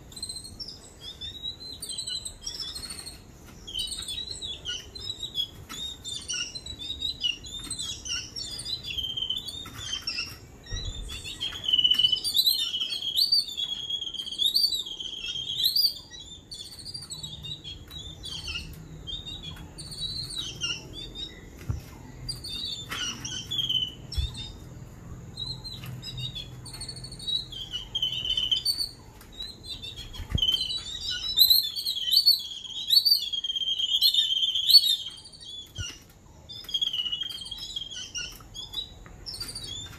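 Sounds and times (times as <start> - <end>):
babblers chirping and chattering: 0.0 - 39.9.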